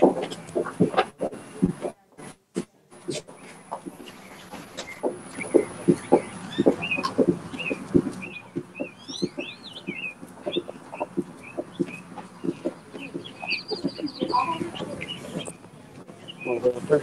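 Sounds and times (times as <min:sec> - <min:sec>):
footsteps on concrete: 0:00.0 - 0:16.2
birds chirping: 0:03.0 - 0:17.0.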